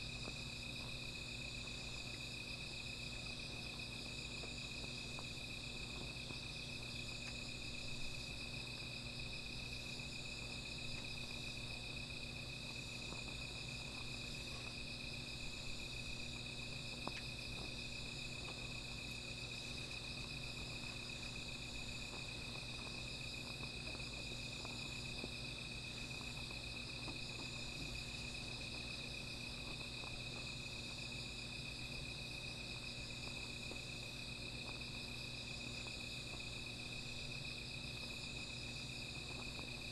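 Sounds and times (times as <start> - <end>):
night insects trilling: 0.0 - 39.9
small fire crackling: 0.0 - 39.9.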